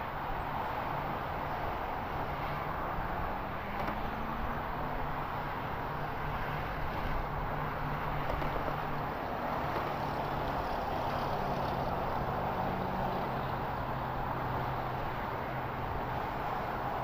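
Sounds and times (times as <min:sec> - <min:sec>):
outdoor background rush: 0:00.0 - 0:17.0.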